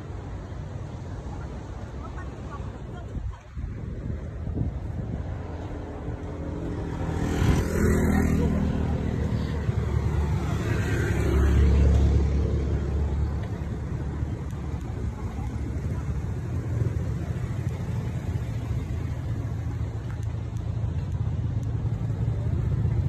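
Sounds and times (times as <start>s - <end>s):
road traffic: 0.0s - 23.0s.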